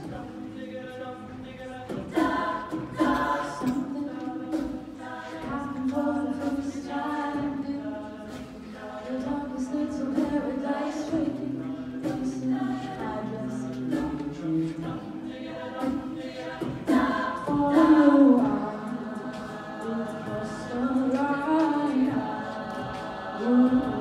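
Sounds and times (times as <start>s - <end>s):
group singing backing chords: 0.0s - 24.0s
woman singing lead: 1.2s - 24.0s
beatboxed percussion hits: 1.7s - 24.0s.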